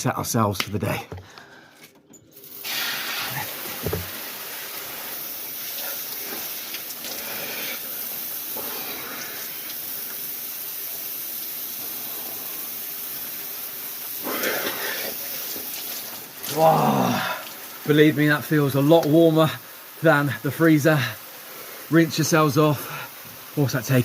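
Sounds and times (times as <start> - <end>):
shower spray running: 2.4 - 24.0.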